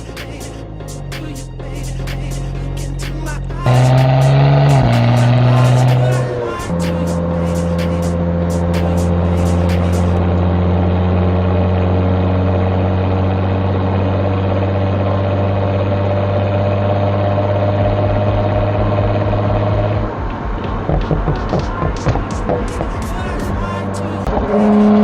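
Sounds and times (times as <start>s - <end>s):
car engine droning while driving: 2.4s - 25.0s.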